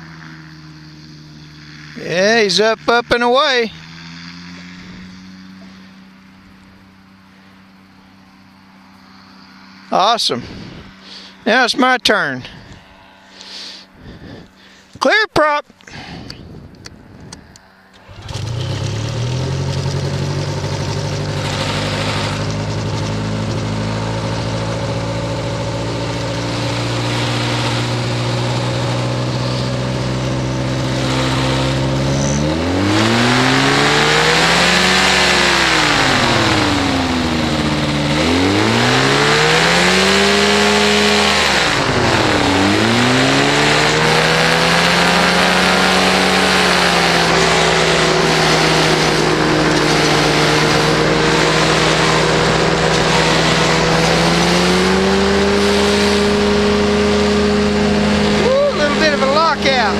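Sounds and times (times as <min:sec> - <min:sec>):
propeller engine revving: 0:00.0 - 0:59.9.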